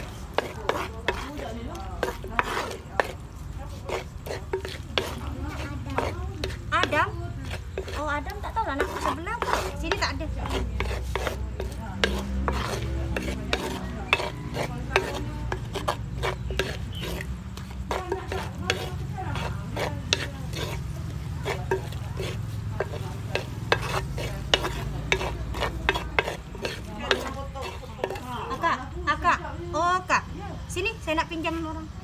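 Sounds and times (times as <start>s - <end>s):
wooden spatula scraping clay bowl: 0.0s - 29.6s.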